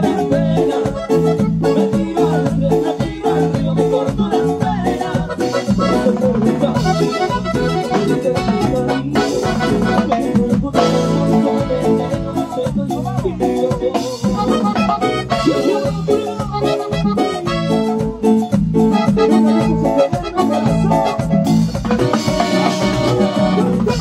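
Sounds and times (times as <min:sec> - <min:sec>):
accordion lead: 0:00.0 - 0:24.0
live latin band music: 0:00.0 - 0:24.0.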